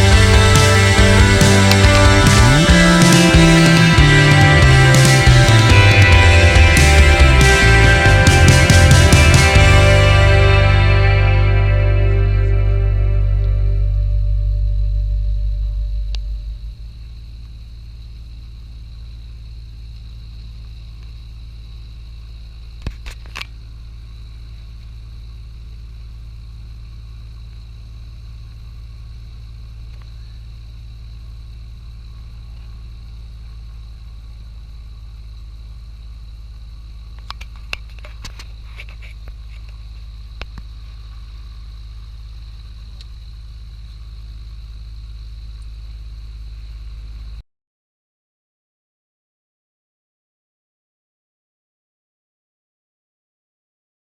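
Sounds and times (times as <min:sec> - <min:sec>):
light aircraft engine drone: 0:00.0 - 0:47.4.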